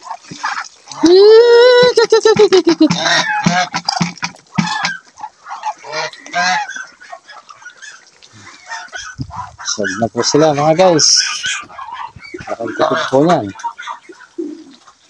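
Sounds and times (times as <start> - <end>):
geese honking: 2.2 - 15.0.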